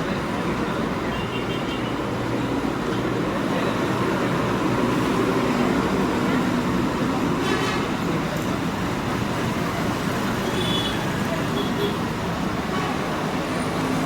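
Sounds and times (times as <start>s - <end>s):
road traffic rumble and hiss: 0.0s - 14.0s.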